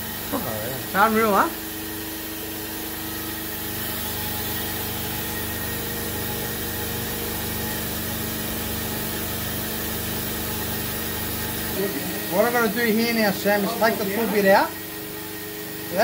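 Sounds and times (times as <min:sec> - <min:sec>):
boring machine humming: 0:00.0 - 0:16.0.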